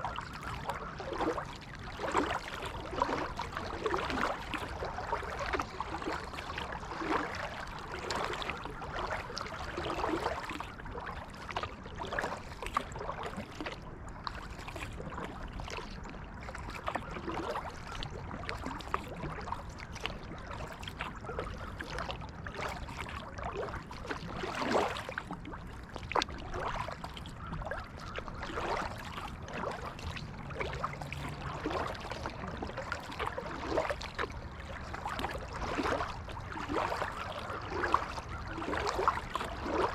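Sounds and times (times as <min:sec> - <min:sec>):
kayak paddle splashing water: 0:00.0 - 0:39.9
water trickling and dripping: 0:00.0 - 0:39.9.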